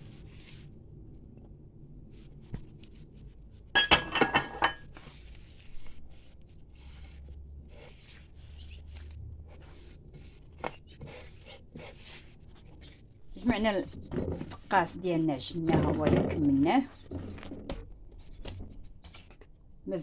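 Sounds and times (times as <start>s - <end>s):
hands kneading dough: 0.0s - 3.8s, 4.8s - 19.5s.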